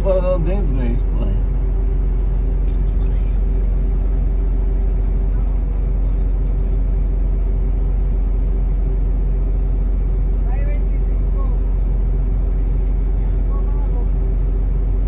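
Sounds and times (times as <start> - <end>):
heavy machinery engine idling: 0.0 - 15.0.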